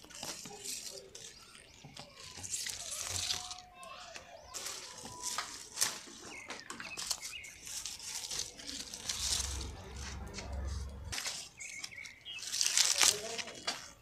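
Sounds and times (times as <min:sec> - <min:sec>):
birds chirping: 0:00.0 - 0:14.0
leaves rustling: 0:00.0 - 0:14.0
stems snapping: 0:00.0 - 0:14.0.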